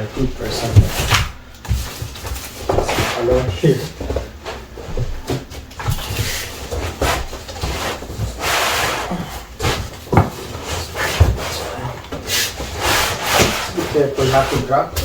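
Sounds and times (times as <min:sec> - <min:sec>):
cardboard and foam scraping: 0:00.2 - 0:15.0.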